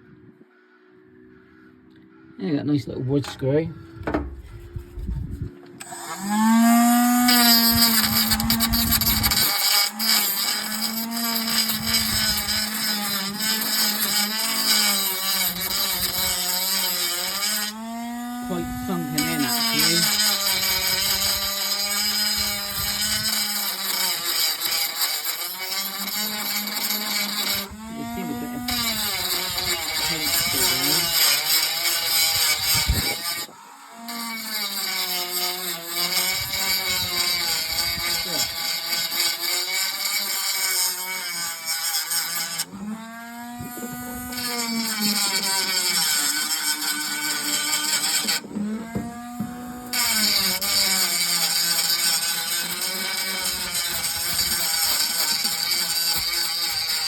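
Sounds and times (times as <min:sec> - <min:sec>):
power drill motor running: 0:05.8 - 0:57.0.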